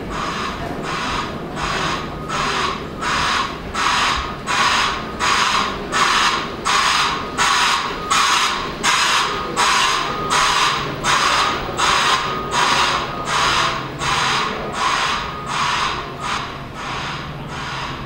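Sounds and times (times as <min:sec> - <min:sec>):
broadband reversing alarm: 0:00.0 - 0:18.0.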